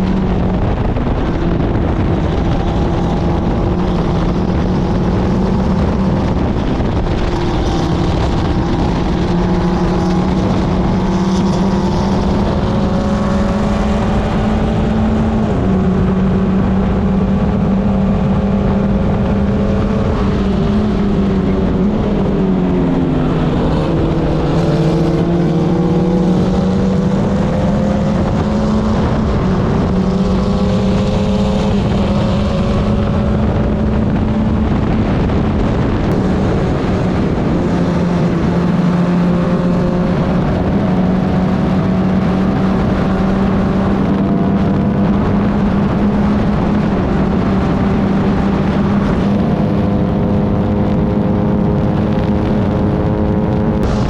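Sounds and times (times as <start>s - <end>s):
race car engine at high revs: 0.0s - 54.0s
wind rushing: 0.0s - 54.0s.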